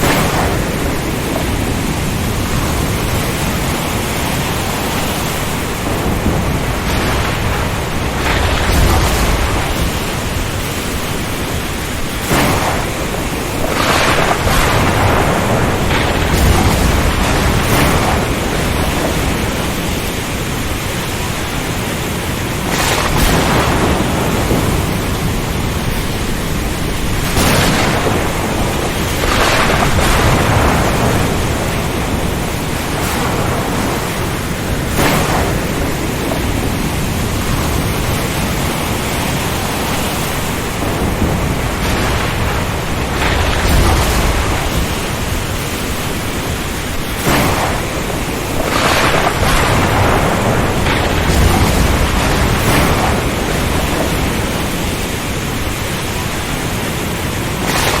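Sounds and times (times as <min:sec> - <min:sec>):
waves crashing: 0:00.0 - 0:58.0
wind and rain: 0:00.0 - 0:58.0.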